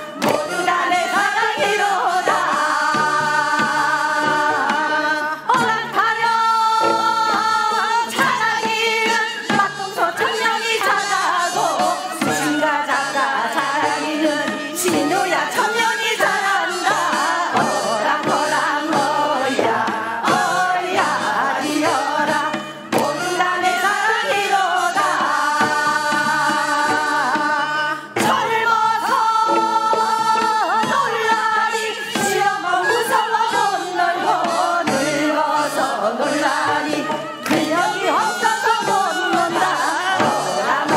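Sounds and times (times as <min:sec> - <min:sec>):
musical accompaniment: 0:00.0 - 0:40.9
women singing folk song: 0:00.0 - 0:40.9.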